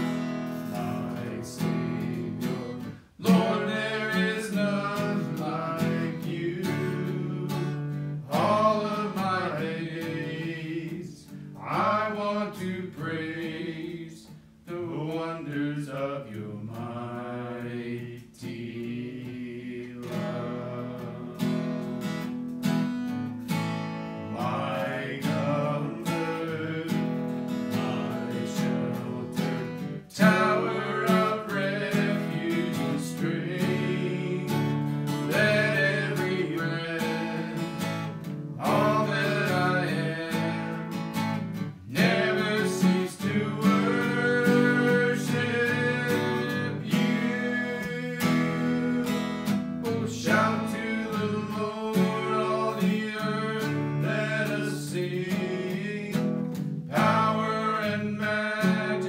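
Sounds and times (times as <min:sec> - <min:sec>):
man singing: 0:00.0 - 0:21.9, 0:24.2 - 0:59.0
acoustic guitar strumming: 0:00.0 - 0:59.0.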